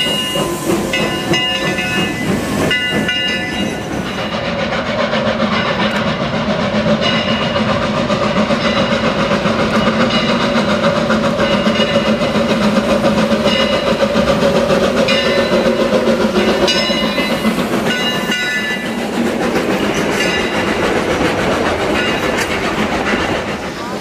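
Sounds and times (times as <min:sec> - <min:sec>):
steam train passing: 0:00.0 - 0:24.0
wheels clattering over rails: 0:00.0 - 0:24.0.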